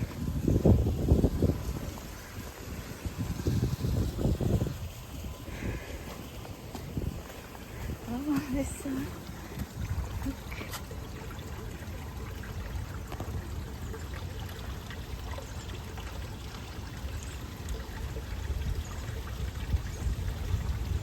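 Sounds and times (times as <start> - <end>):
water running: 0.0 - 21.0.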